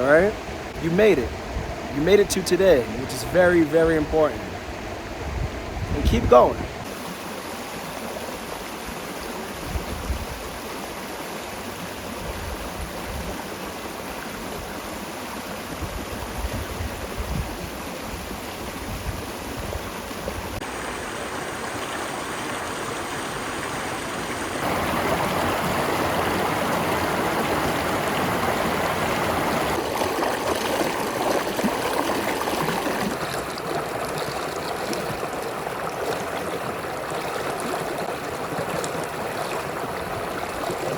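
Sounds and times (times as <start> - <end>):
creek water flowing over rocks: 6.4 - 40.9.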